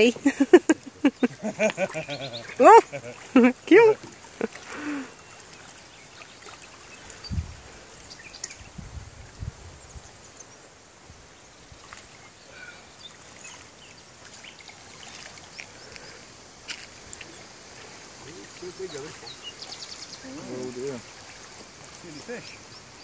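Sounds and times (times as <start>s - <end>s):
faint water lapping: 0.0s - 23.0s.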